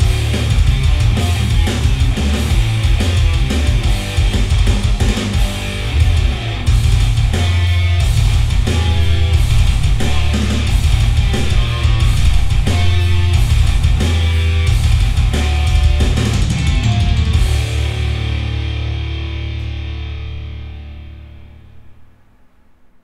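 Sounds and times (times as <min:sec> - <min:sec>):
heavy rock music over speakers: 0:00.0 - 0:21.4.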